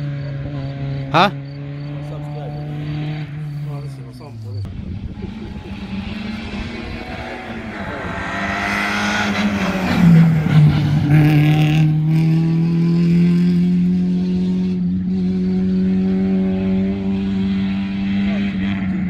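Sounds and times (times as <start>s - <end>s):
rally car engine passing by: 0.0s - 19.0s.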